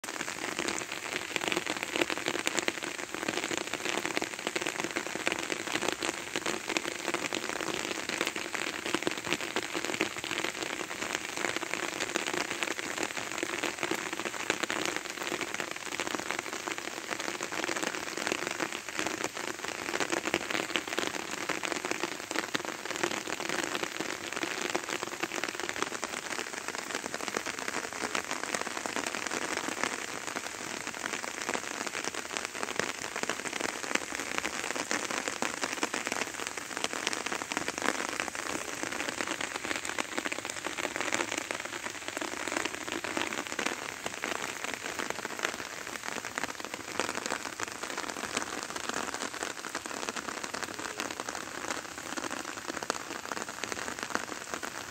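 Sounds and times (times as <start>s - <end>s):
rain falling on grass and leaves: 0.0s - 54.9s.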